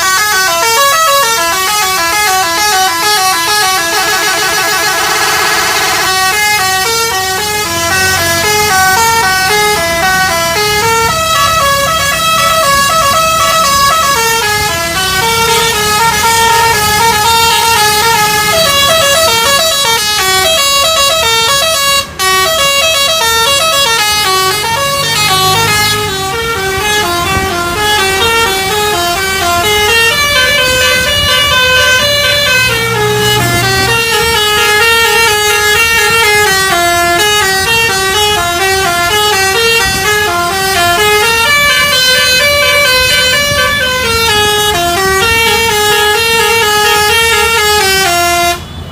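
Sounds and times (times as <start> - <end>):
multi-tone musical bus horn: 0.0 - 48.9.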